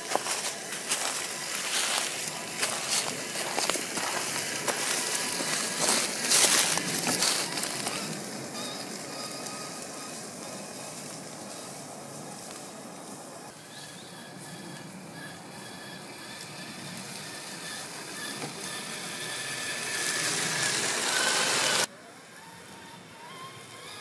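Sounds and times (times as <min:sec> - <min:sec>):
dry leaves crunching under tyres: 0:00.0 - 0:21.9.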